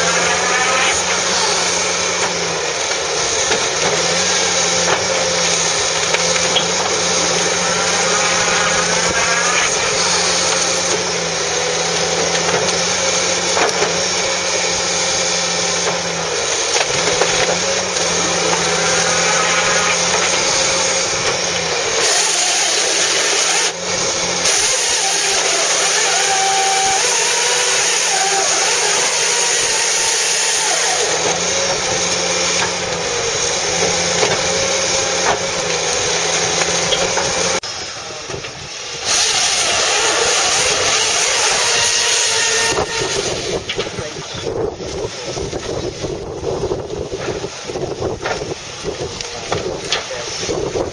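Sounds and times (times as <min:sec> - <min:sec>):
diesel engine and hydraulics running: 0:00.0 - 0:50.9
knocks and squeals of wood and machinery: 0:00.0 - 0:50.9.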